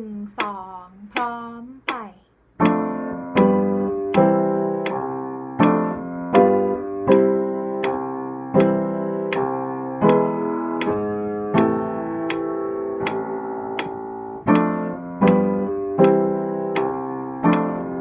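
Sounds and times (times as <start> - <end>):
slow piano piece: 2.6 - 18.0.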